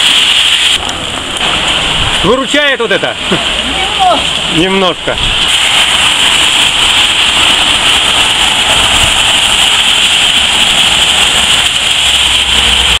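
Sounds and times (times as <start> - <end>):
passing traffic rumble: 0.0 - 13.0
rain hissing: 0.0 - 13.0
tyres on wet street: 0.0 - 13.0.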